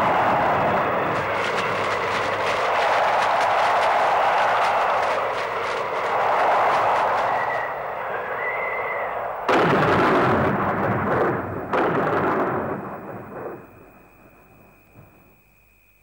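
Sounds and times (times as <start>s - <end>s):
thunder rumble and crashes: 0.0s - 15.4s.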